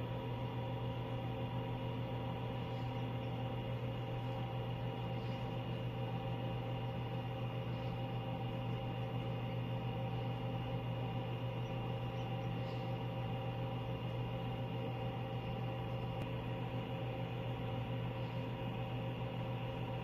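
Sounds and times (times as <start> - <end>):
incubator mechanical hum: 0.0 - 20.0.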